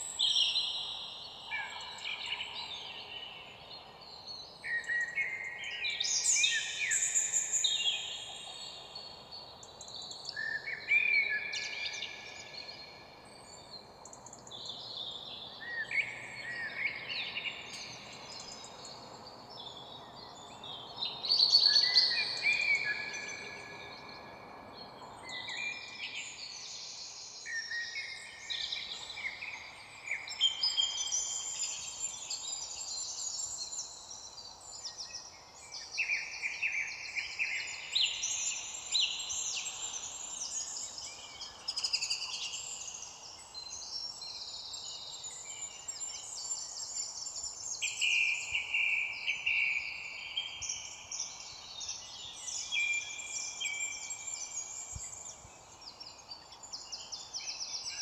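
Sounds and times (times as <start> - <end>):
faint background hiss: 0.0 - 58.0
songbirds singing: 0.0 - 58.0.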